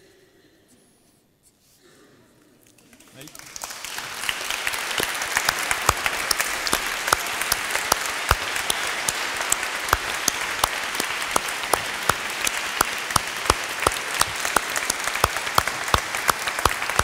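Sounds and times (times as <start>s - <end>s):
audience applauding: 2.8s - 17.0s.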